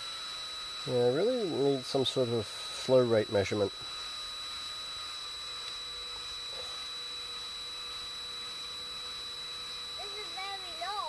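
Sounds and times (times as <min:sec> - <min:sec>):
cordless drill motor whine: 0:00.0 - 0:11.0.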